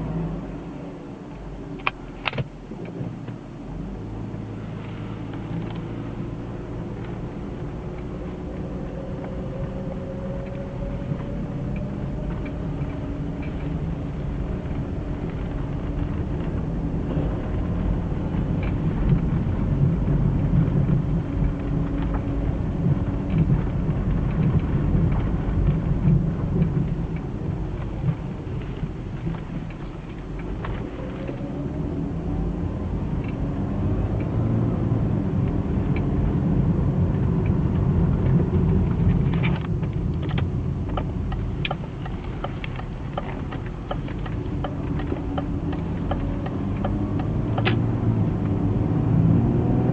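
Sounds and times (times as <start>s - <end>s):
road and drivetrain rumble: 0.0s - 49.9s.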